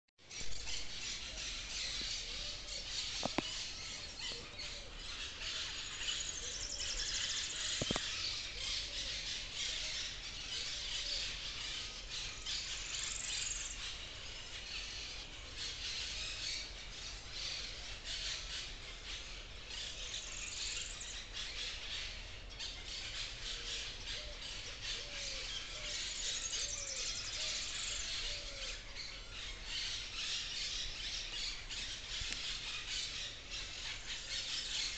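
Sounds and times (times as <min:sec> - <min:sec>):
birds singing and calling: 0:00.2 - 0:34.9.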